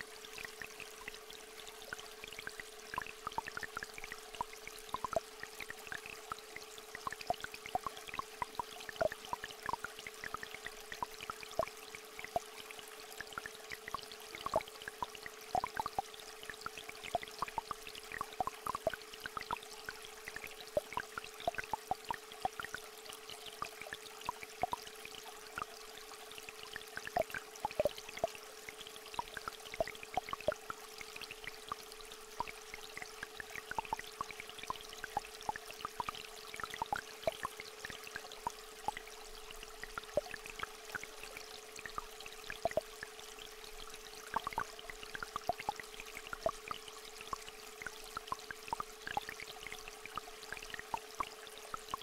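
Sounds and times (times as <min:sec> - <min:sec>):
small stream trickling: 0:00.0 - 0:52.0
water dripping: 0:00.4 - 0:52.0.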